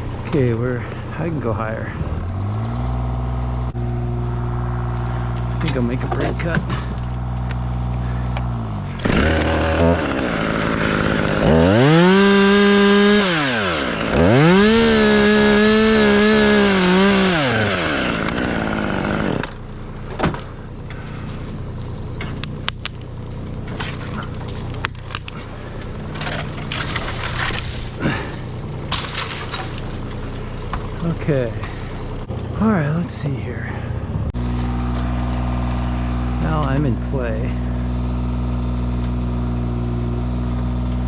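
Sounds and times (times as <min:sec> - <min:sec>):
chainsaw idling and revving: 0:02.3 - 0:32.3, 0:34.4 - 0:41.0.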